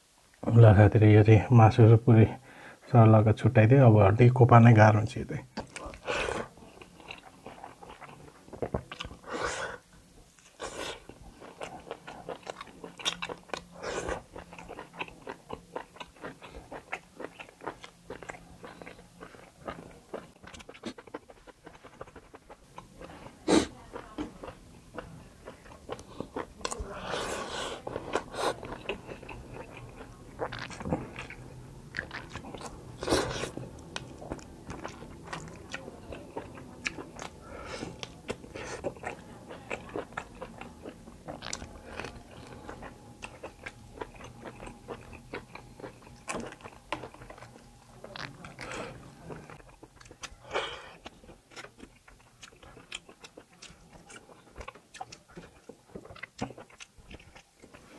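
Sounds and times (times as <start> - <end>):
chewing and biting meat: 5.6 - 9.3, 10.6 - 23.1, 24.4 - 57.9.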